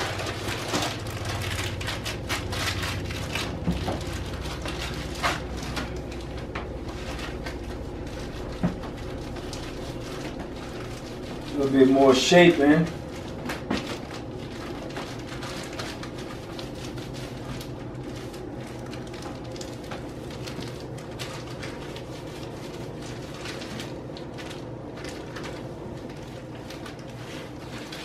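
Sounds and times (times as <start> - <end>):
foil chip bag crinkling: 0.0 - 28.0
steady low hum: 0.0 - 28.0.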